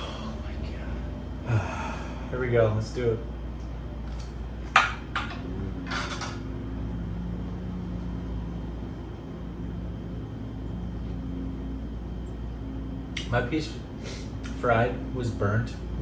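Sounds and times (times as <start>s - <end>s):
low hum with wavering tones: 0.0s - 16.0s.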